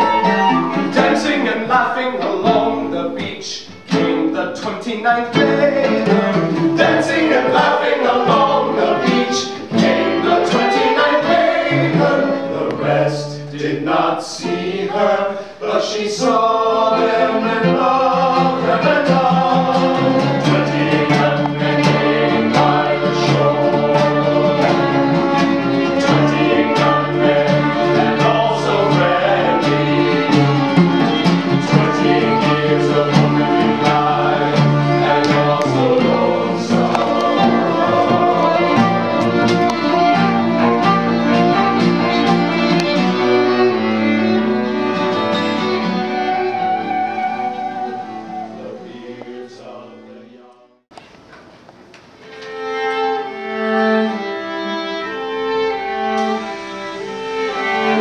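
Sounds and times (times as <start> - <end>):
flute: 0.0 - 3.0, 5.4 - 13.3, 16.8 - 49.5, 52.4 - 58.0
cello: 0.0 - 3.1, 5.3 - 50.1, 52.3 - 58.0
violin: 0.0 - 49.5, 52.2 - 58.0
acoustic guitar: 0.0 - 49.7
people singing: 0.0 - 50.8, 56.0 - 58.0.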